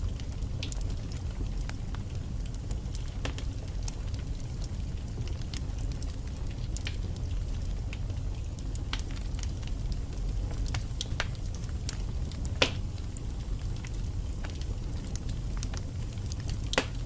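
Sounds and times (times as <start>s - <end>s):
wood fire crackling in fireplace: 0.0s - 17.0s.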